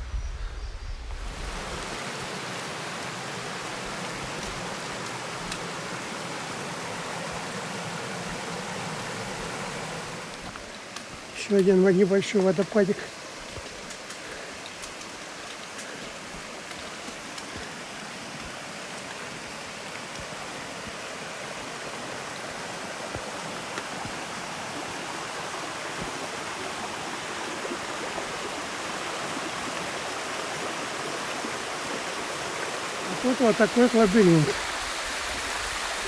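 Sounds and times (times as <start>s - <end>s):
small waterfall rushing: 1.1s - 36.0s.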